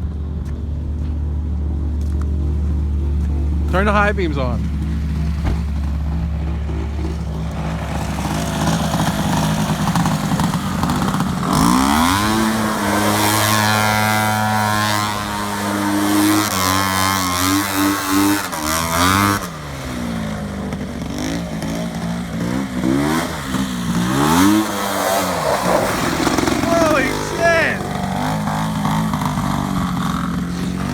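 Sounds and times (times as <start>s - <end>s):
tractor engines revving: 3.0s - 30.9s.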